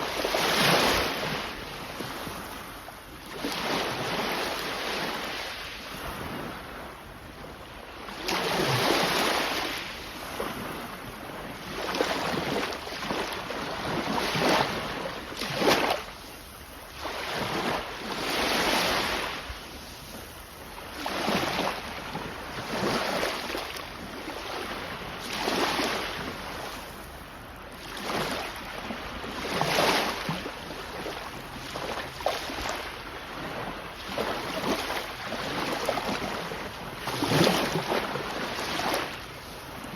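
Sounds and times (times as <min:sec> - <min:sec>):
sea waves washing onto shore: 0:00.0 - 0:06.8, 0:11.6 - 0:39.9.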